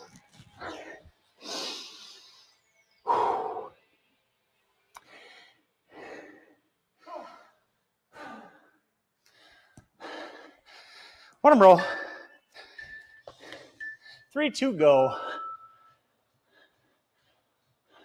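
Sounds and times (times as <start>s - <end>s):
person breathing heavily: 0.6s - 3.8s, 5.0s - 14.4s, 15.1s - 18.0s.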